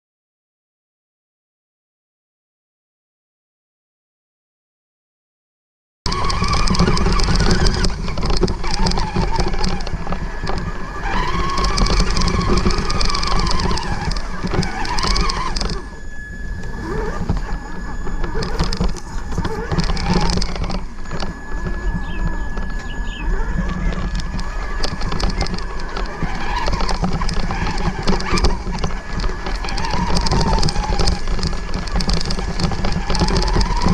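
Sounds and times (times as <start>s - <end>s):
chassis rumble and clatter: 6.1s - 33.9s
electric drive whining: 6.1s - 33.9s.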